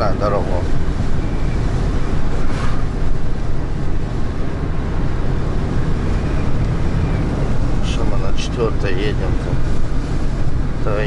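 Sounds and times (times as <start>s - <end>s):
road and wind noise: 0.0s - 11.0s
van engine droning: 0.0s - 11.0s.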